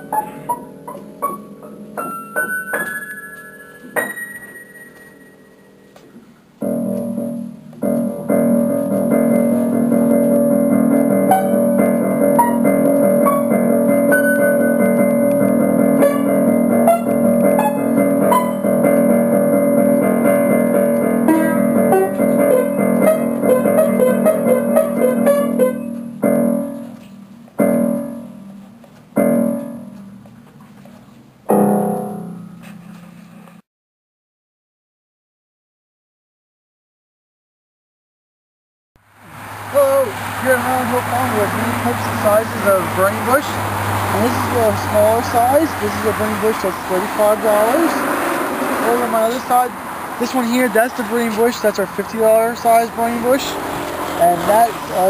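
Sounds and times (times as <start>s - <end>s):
piano music: 0.0s - 6.0s, 6.6s - 30.7s, 31.5s - 33.2s, 39.3s - 55.0s.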